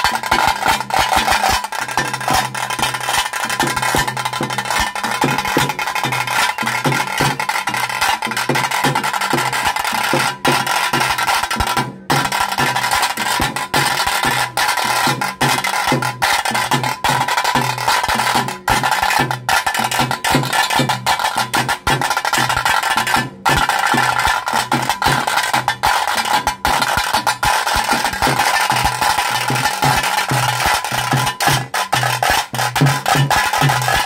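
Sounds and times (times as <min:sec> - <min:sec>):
drums beating fast rhythm: 0:00.0 - 0:34.0.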